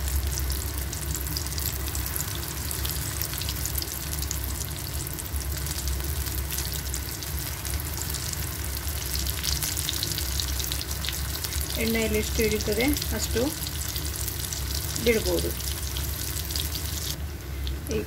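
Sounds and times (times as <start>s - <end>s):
batter sizzling in hot oil: 0.0s - 18.0s.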